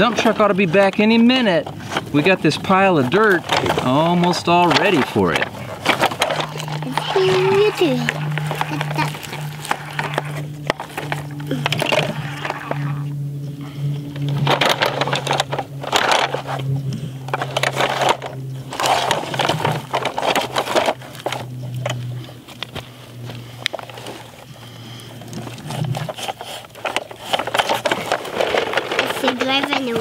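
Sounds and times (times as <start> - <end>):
toy bucket scraping through gravel: 0.0 - 13.0, 14.3 - 22.2, 25.4 - 30.0
steady low hum: 0.0 - 30.0.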